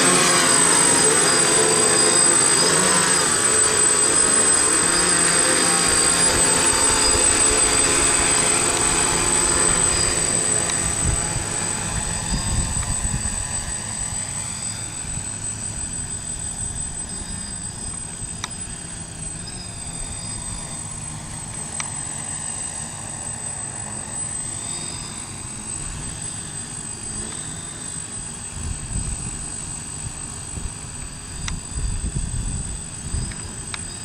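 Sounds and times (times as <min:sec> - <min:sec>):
drone propellers whirring: 0:00.0 - 0:34.0
high-pitched whine: 0:00.0 - 0:34.0.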